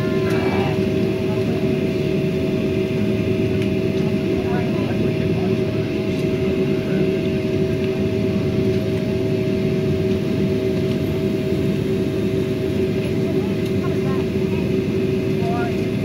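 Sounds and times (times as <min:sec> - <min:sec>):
constant hum: 0:00.0 - 0:16.0
jet engines idling rumble: 0:00.0 - 0:16.0.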